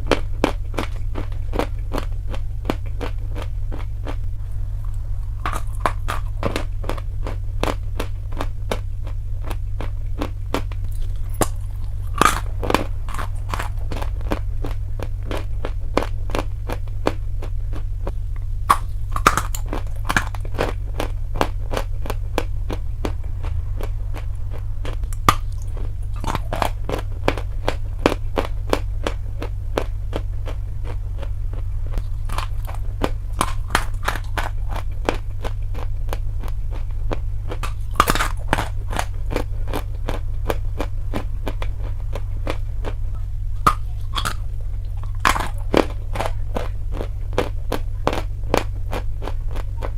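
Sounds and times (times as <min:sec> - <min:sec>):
chalk crunching while chewed: 0:00.0 - 0:49.9
low hum: 0:00.0 - 0:49.9.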